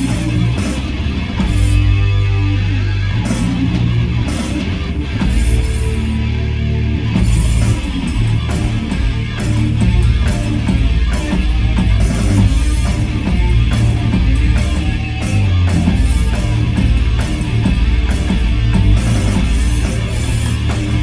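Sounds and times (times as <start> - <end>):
heavy metal rock band playing: 0.0 - 21.0.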